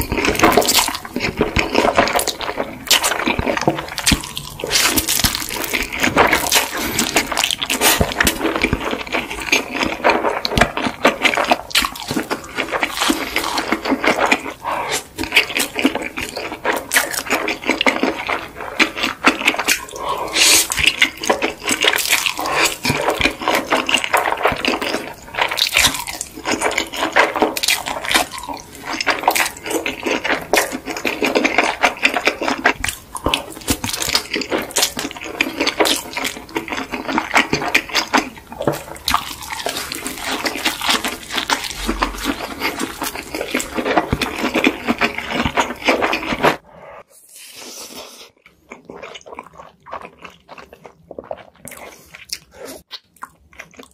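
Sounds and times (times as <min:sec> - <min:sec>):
slurping and chewing noodles: 0:00.0 - 0:53.9.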